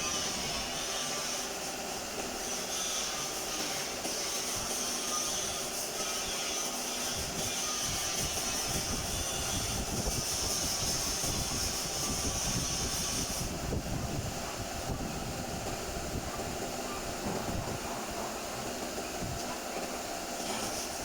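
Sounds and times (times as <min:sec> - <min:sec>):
workshop machine noise: 0:00.0 - 0:21.0.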